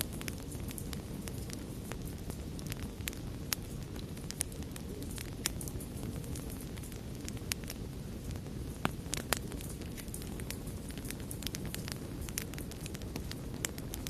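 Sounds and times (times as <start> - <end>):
burning flames rushing: 0.0 - 14.0
campfire crackling: 0.0 - 14.0.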